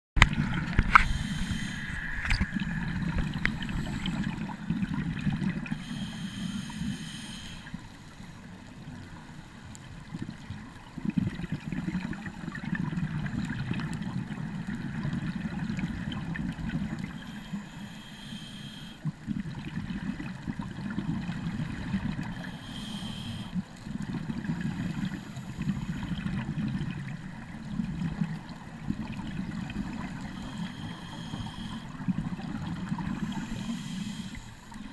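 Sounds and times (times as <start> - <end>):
bubbling hisses of diver exhaust: 0.2 - 34.9
low rumble of moving water: 0.2 - 34.9.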